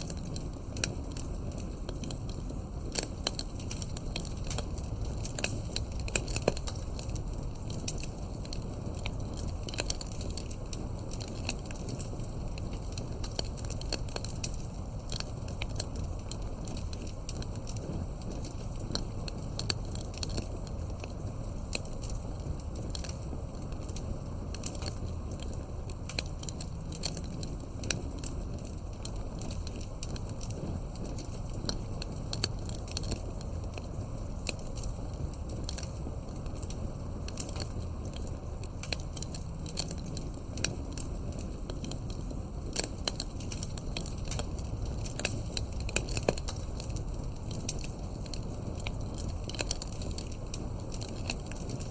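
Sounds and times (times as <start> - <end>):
burning wood pops: 0.0 - 51.9
campfire crackling: 0.0 - 51.9.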